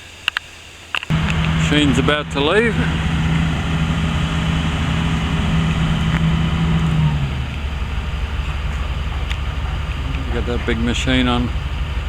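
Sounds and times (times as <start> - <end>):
heavy diesel engine running: 1.1 - 12.0.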